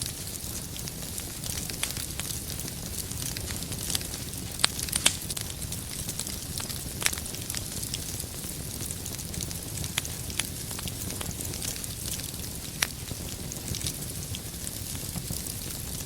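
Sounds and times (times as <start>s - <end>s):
fire flames rumbling: 0.0s - 16.0s
logs crackling and popping: 0.0s - 16.0s.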